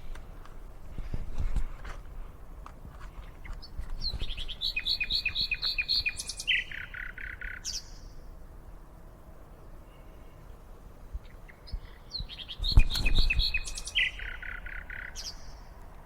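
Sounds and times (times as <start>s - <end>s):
songbird singing: 0.0s - 8.5s, 9.3s - 16.0s.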